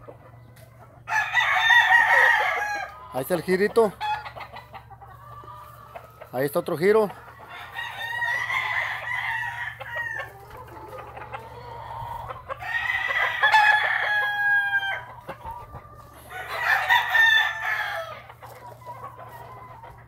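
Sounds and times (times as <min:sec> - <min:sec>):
roosters crowing: 0:00.0 - 0:20.0.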